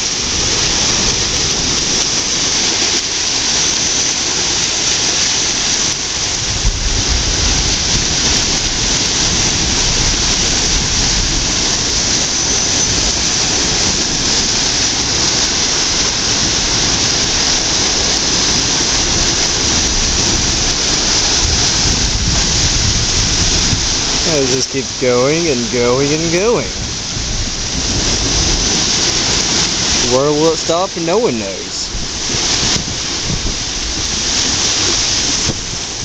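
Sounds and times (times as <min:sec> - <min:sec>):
low rumbling: 0:00.0 - 0:36.0
whirlpool water rushing: 0:00.0 - 0:36.0.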